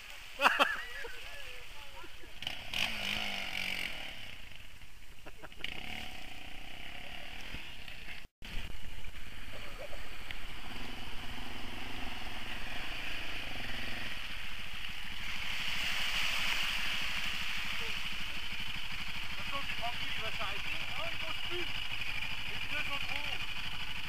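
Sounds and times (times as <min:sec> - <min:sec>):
quad bike engine revving: 0:00.5 - 0:24.0.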